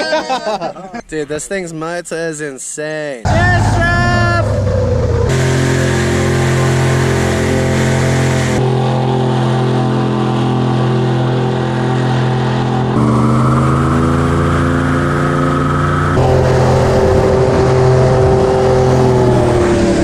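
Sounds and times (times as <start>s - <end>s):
airboat engine and propeller: 3.3s - 20.0s.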